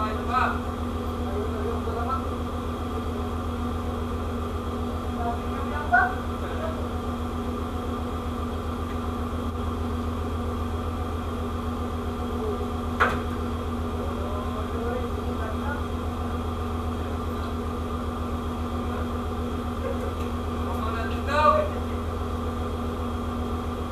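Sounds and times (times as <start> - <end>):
ship machinery humming: 0.0 - 23.9.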